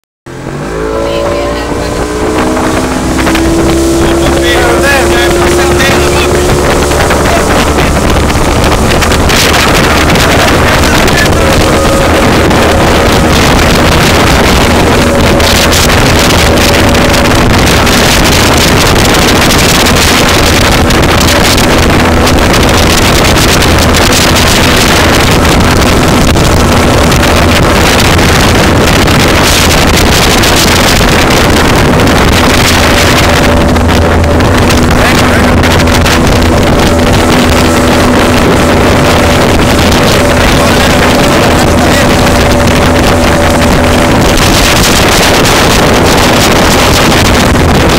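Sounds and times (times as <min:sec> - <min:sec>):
motorboat engine: 0:00.2 - 0:47.9
water rushing: 0:00.3 - 0:47.9
wind buffeting microphone: 0:00.3 - 0:47.9.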